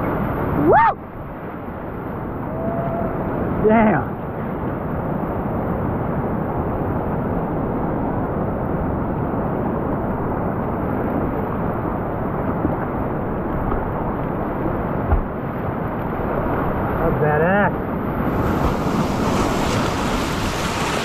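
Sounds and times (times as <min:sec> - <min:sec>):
rushing whitewater: 0:00.0 - 0:21.0.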